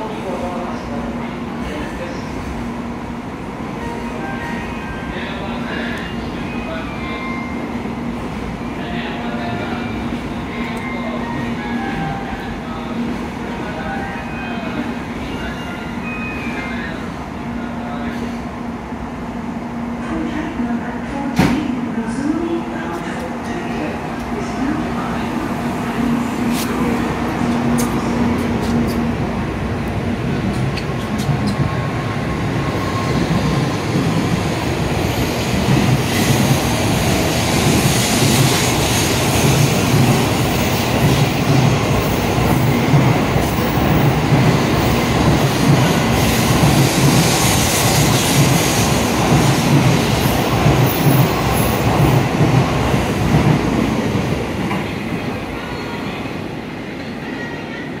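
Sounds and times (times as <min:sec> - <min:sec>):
train wheel and rail noise: 0:00.0 - 0:58.0.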